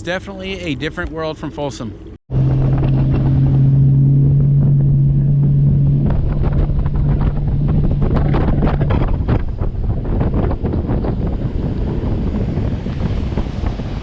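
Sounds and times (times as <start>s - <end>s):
water noise: 0.0s - 14.0s
wind buffeting microphone: 2.3s - 14.0s.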